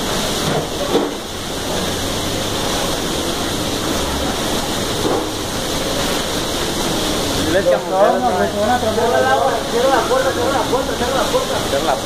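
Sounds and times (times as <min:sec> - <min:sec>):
water pouring through ceiling: 0:00.0 - 0:12.0.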